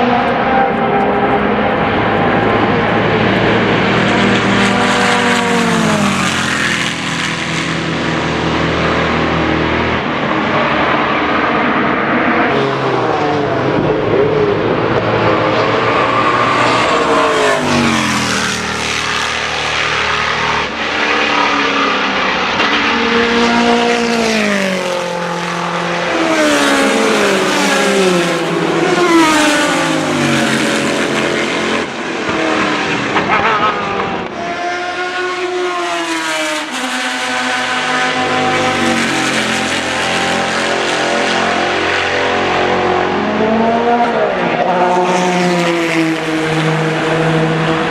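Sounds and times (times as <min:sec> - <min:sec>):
race car engine revving past: 0:00.0 - 0:47.9.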